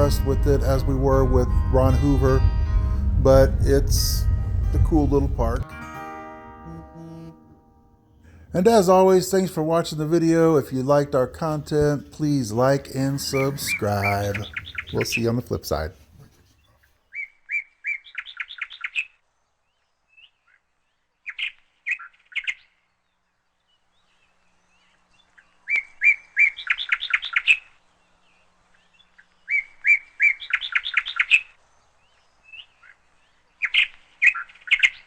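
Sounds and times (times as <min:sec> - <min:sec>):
songbird singing: 0:00.0 - 0:05.7, 0:08.3 - 0:16.0, 0:16.6 - 0:35.0.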